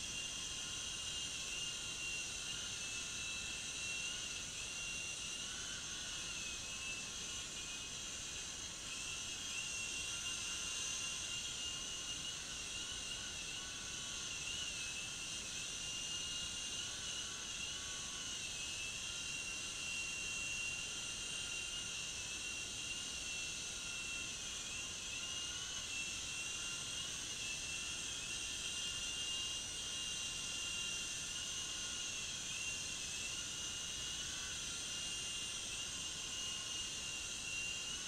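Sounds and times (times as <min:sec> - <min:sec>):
toy helicopter motor whine: 0:00.0 - 0:38.0.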